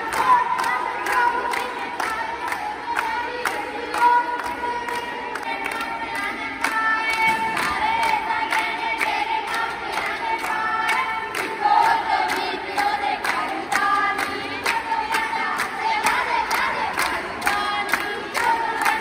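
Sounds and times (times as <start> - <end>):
hand clapping: 0.0 - 19.0
women singing together: 0.0 - 19.0.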